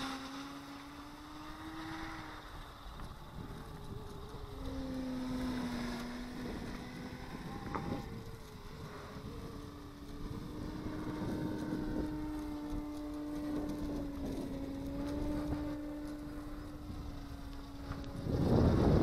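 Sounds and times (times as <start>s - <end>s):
model aircraft motor humming: 0.0s - 19.0s
wind gusts on microphone: 0.0s - 19.0s.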